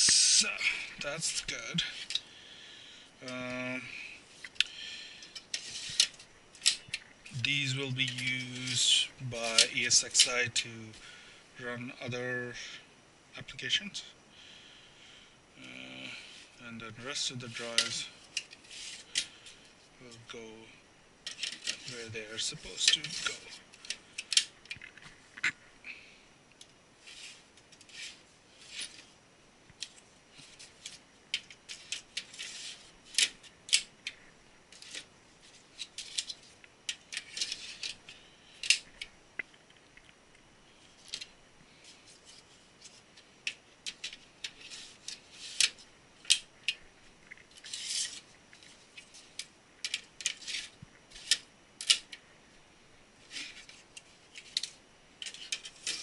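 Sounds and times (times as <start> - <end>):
hard drives and parts clicking and scraping: 0.0 - 11.2, 15.6 - 52.6, 53.2 - 56.0.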